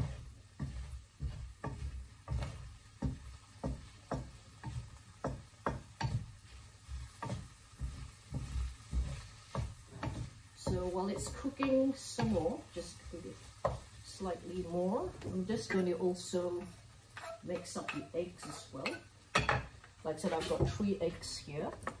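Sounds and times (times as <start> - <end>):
wooden spatula scraping frying pan: 0.0 - 22.0.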